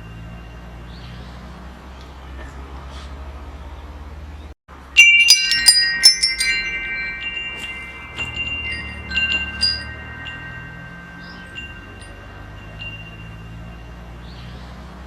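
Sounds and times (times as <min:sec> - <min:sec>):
metal wind chimes ringing: 0:00.0 - 0:01.9, 0:04.7 - 0:15.0.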